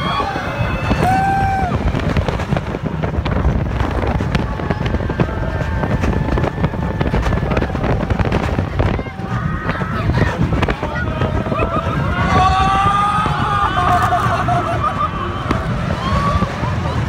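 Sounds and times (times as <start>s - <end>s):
roller coaster rumbling and rattling: 0.0s - 17.0s
wind buffeting microphone: 0.0s - 17.0s.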